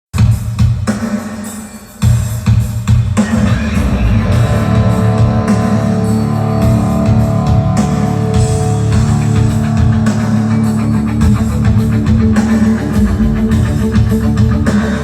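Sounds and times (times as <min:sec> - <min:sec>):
loud rock music through speakers: 0:00.2 - 0:15.0.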